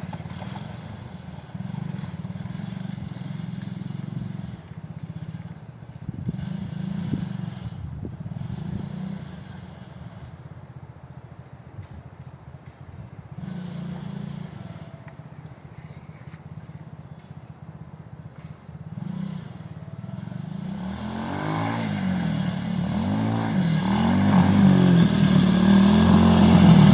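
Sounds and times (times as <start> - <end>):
quad bike engine revving: 0.0 - 10.3, 13.2 - 26.9.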